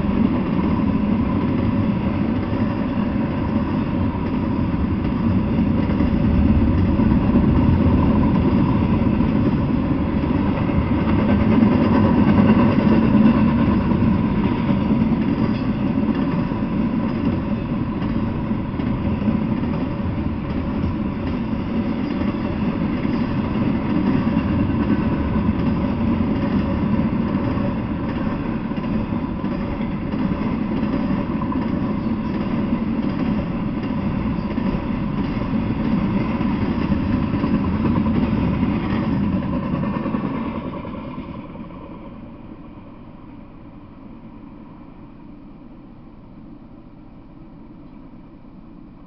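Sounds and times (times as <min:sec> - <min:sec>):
freight train passing: 0:00.0 - 0:49.0.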